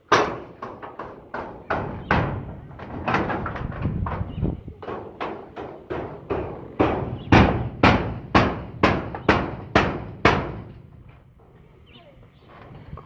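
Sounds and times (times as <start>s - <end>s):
footsteps on metal roof: 0.0s - 11.7s.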